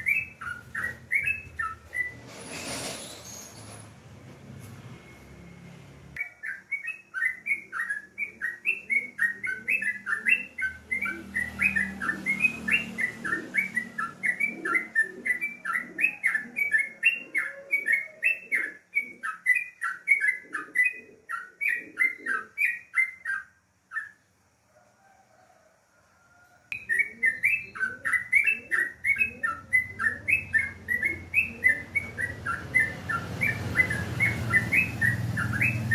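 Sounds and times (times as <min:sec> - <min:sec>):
bird singing rapid chirps: 0:00.0 - 0:02.2, 0:06.2 - 0:24.2, 0:26.8 - 0:35.9.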